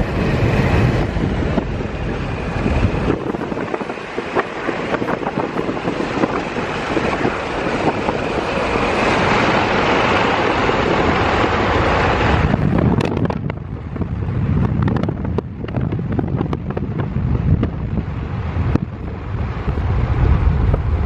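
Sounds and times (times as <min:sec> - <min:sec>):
low rumble: 0:00.0 - 0:21.0
wind and road noise: 0:00.0 - 0:21.0.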